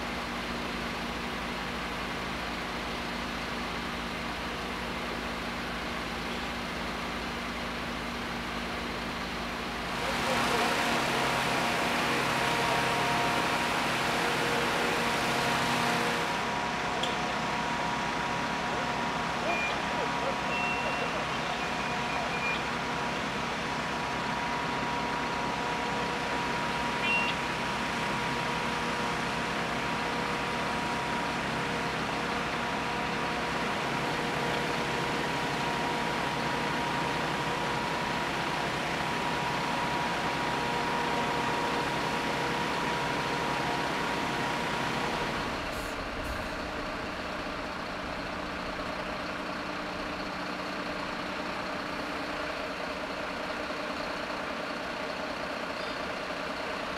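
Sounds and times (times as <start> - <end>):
machinery running with whine: 3.1 - 56.9.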